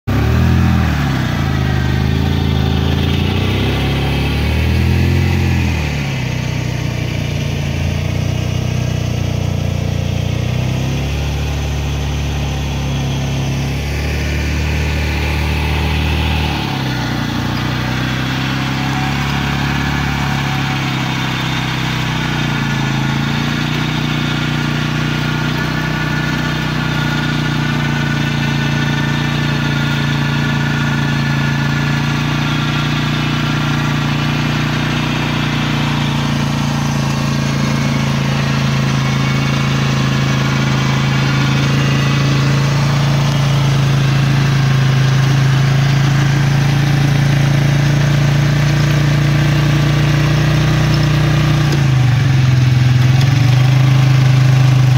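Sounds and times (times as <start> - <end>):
atv engine revving and idling: 0.0 - 54.9.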